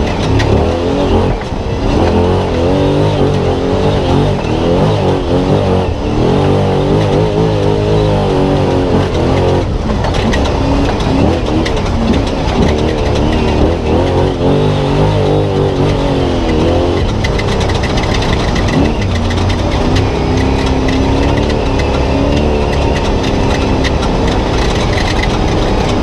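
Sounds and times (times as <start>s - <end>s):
fast rattling tick: 0.0s - 26.0s
truck engine revving: 0.0s - 26.0s.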